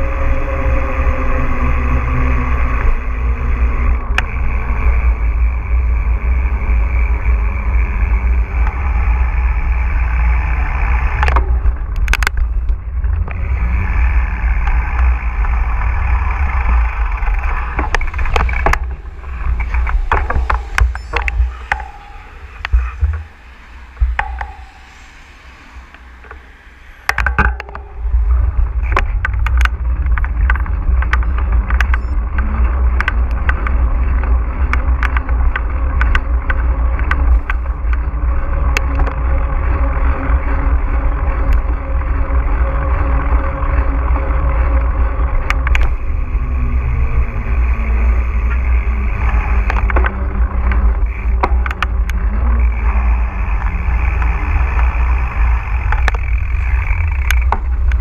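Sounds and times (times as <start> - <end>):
wind rumble on microphone: 0.0 - 58.0
bike rattling and knocking: 2.6 - 25.1, 27.1 - 58.0.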